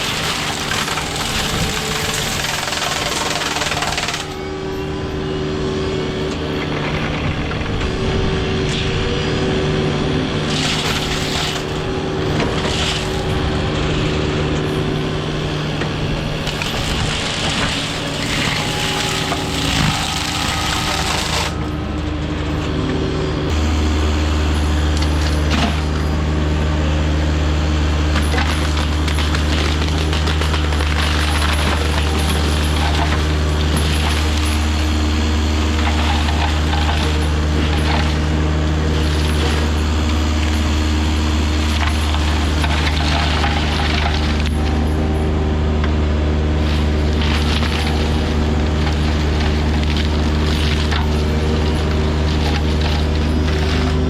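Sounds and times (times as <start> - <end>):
deep heavy drone: 0.0 - 54.0
diesel engine running: 0.0 - 54.0
mulcher grinding wood: 0.0 - 54.0.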